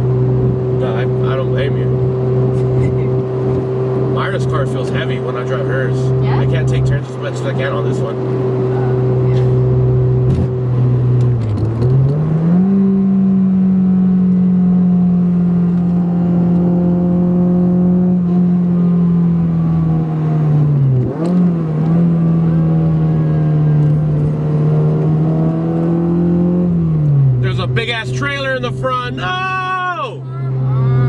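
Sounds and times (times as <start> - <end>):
car engine at high revs: 0.0 - 31.0.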